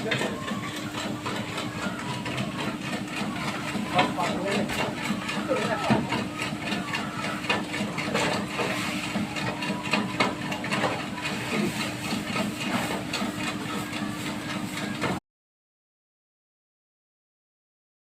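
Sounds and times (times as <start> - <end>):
mixer machine hum: 0.0 - 15.2
rattling and hiss of churning powder: 0.0 - 15.2.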